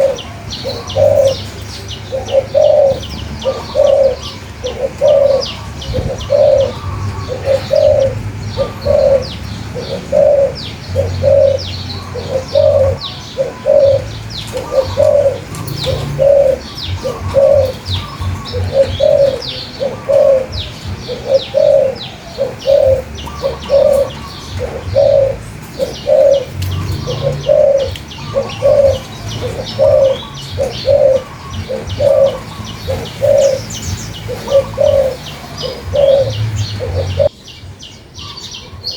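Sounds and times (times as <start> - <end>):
dove cooing: 0.0 - 37.4
small birds chirping: 0.0 - 38.9.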